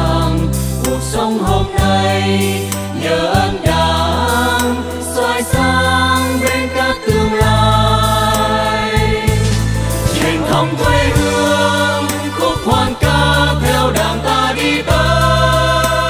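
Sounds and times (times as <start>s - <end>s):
mixed choir singing: 0.0s - 16.0s
instrumental accompaniment: 0.2s - 16.0s.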